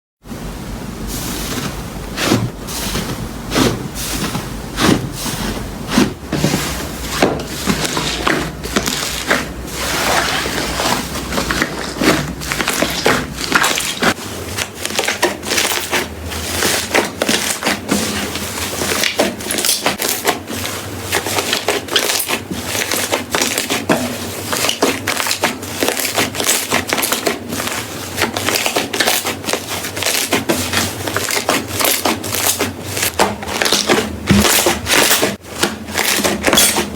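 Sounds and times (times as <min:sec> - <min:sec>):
slime squelching and crackling: 0:01.2 - 0:36.9.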